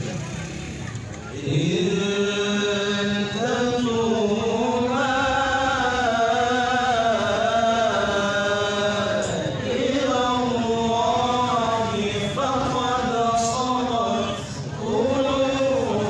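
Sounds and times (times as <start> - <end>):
man chanting into a microphone: 1.4 - 16.0.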